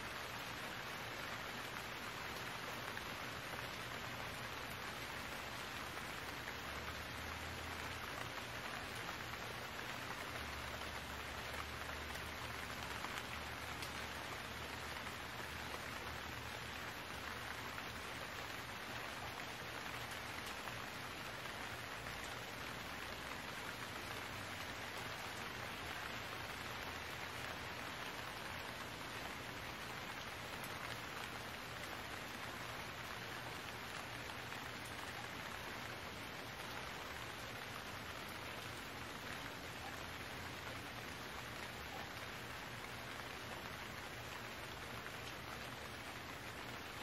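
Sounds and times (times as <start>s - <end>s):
rain falling: 0.0s - 47.0s.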